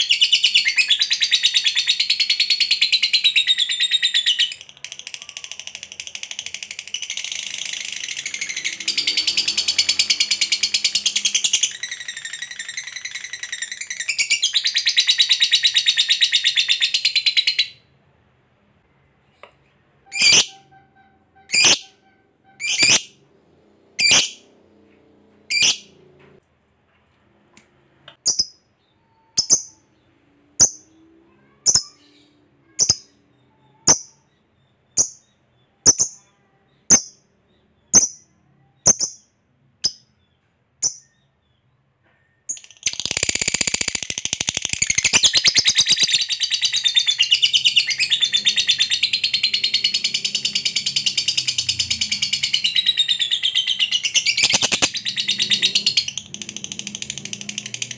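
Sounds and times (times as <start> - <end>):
lovebird chirping and trilling: 0.0 - 17.9, 20.0 - 23.3, 23.9 - 24.5, 25.5 - 26.0, 28.2 - 41.6, 42.4 - 57.9.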